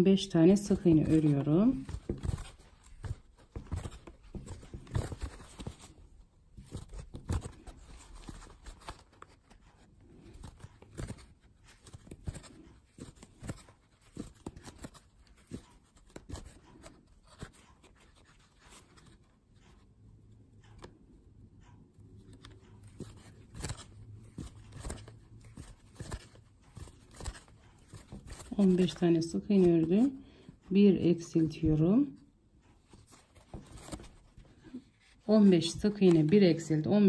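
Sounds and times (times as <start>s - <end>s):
yarn rustling: 0.2s - 19.8s, 21.6s - 37.0s.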